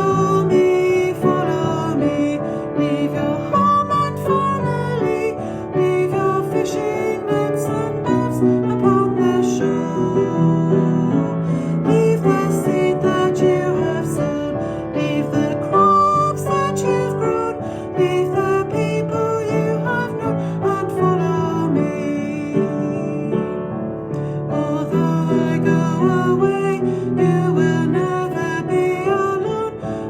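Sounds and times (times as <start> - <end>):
worship song with piano: 0.0 - 30.0.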